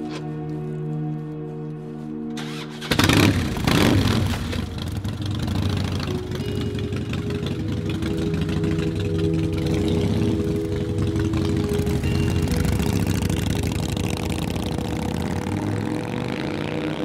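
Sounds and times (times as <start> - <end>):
motorcycle engine starting and idling: 2.4 - 17.0.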